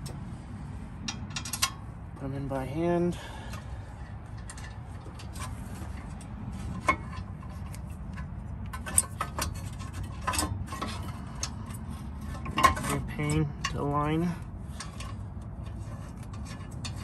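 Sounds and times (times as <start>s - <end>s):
low steady hum: 0.0s - 17.0s
metal bolts clicking and clinking: 1.0s - 1.9s, 3.4s - 17.0s.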